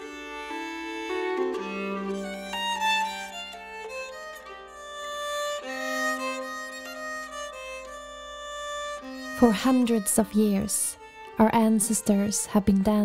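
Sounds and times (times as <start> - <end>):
bowed keyed fiddle melody: 0.0 - 13.0.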